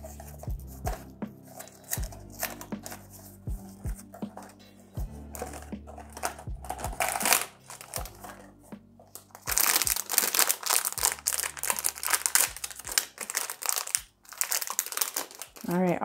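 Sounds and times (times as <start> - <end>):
foil bag tearing: 0.0 - 3.3, 5.3 - 8.5, 9.2 - 15.8
foil bag crinkling: 0.0 - 15.9
lo-fi music with soft beat: 0.0 - 16.0.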